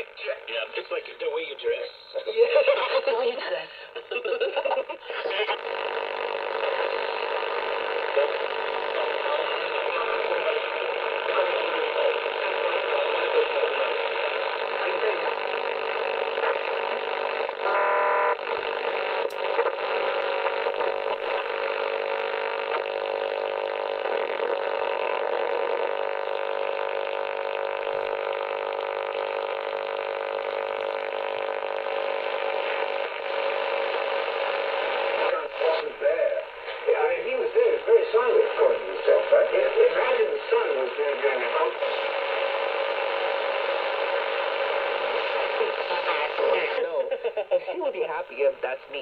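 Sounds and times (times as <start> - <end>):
faint broadcast audio: 0.0 - 26.6, 31.9 - 49.0
radio static hiss: 0.0 - 49.0.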